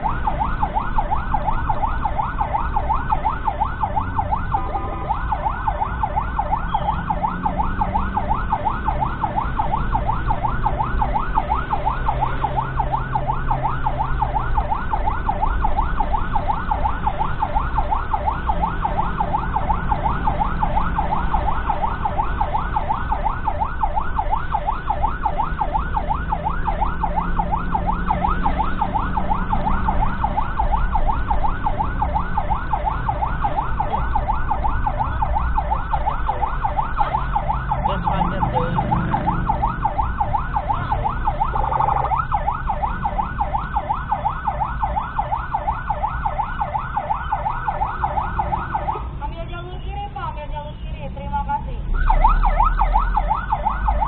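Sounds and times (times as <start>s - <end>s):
engine hum: 0.0s - 54.0s
siren yelping: 0.0s - 54.0s.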